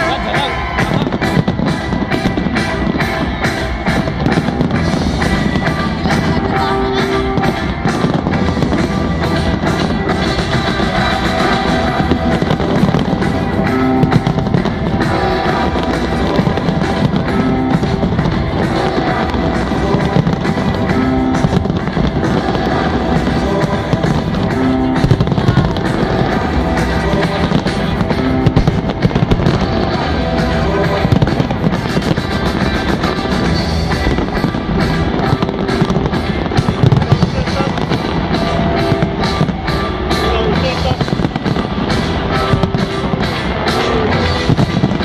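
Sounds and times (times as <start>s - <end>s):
firework bangs and crackles: 0.0s - 45.0s
loud music: 0.0s - 45.0s.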